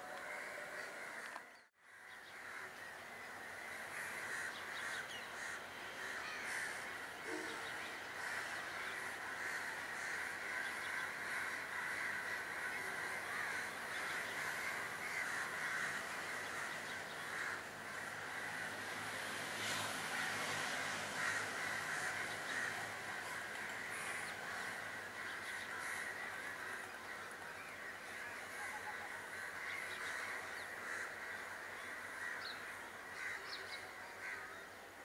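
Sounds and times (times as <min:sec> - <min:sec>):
crows cawing: 0:00.1 - 0:34.7.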